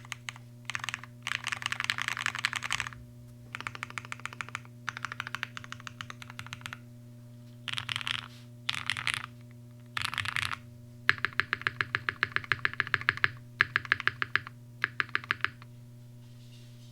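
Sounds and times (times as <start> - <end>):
typing on mechanical keyboard: 0.0 - 6.8, 7.7 - 9.3, 9.9 - 15.7.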